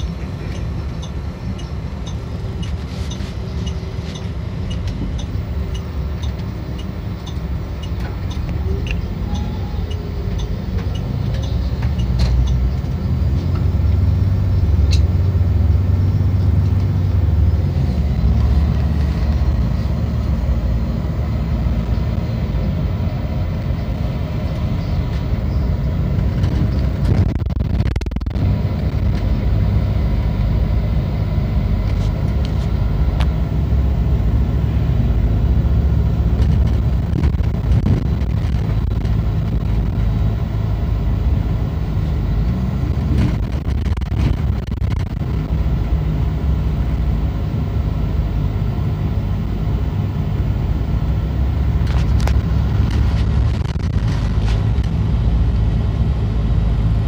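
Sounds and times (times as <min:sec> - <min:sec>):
bus diesel engine and road noise: 0:00.0 - 0:57.0.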